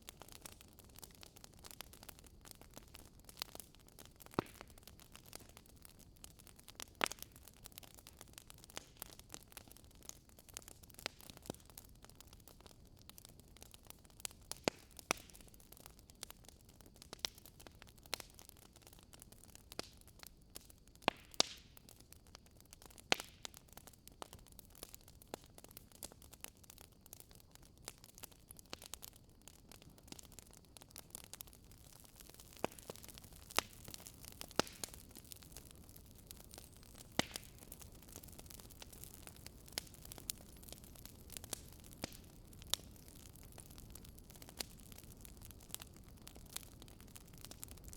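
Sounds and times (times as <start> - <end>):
fire crackling and popping: 0.0 - 47.9
soft steady hiss: 0.0 - 47.9.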